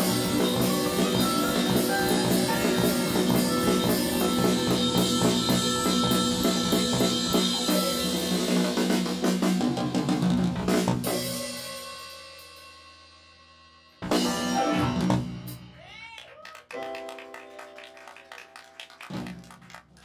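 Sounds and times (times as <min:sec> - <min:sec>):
live band playing instrumental: 0:00.0 - 0:12.1, 0:14.0 - 0:15.8, 0:16.7 - 0:19.9.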